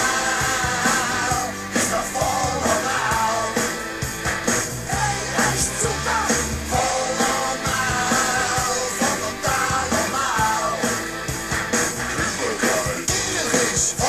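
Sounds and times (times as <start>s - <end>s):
rock music with singing: 0.0s - 14.0s
steady drum beat: 0.0s - 14.0s.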